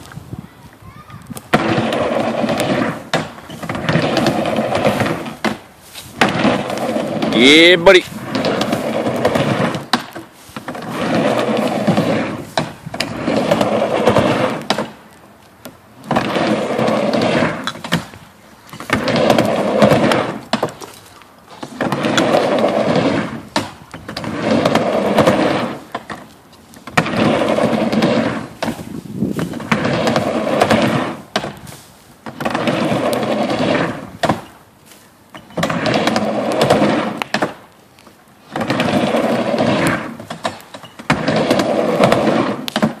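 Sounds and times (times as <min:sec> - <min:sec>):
skateboard wheels rolling on wood: 0:00.0 - 0:43.0.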